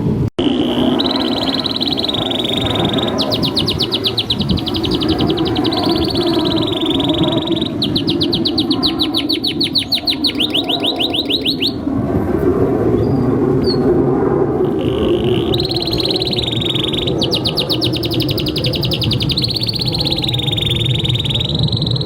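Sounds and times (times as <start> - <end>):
canary singing: 0.4 - 11.9, 14.6 - 22.0.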